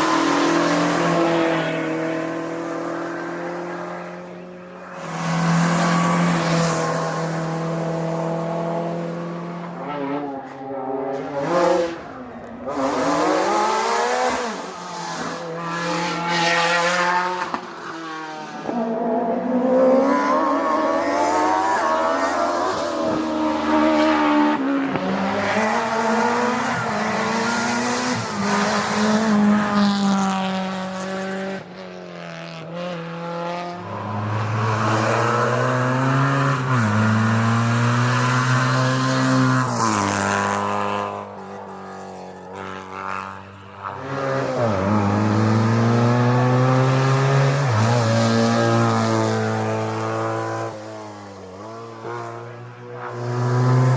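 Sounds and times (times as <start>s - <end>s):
racing car engines at full throttle: 0.0s - 53.9s.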